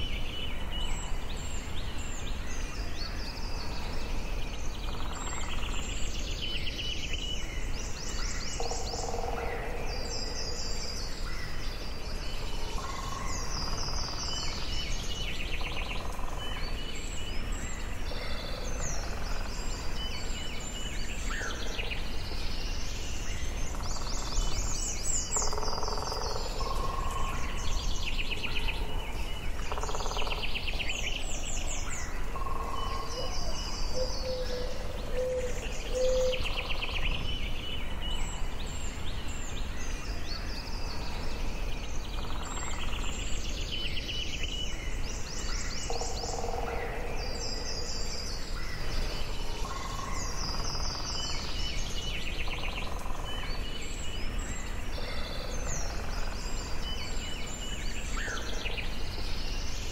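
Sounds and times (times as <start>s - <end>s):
birds singing and calling: 0.0s - 59.9s.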